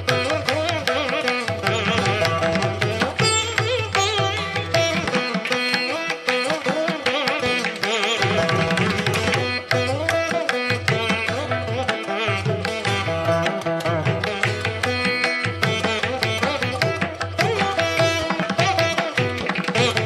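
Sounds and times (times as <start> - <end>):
light percussion: 0.0 - 20.0
string melody with pitch bends: 0.0 - 20.0.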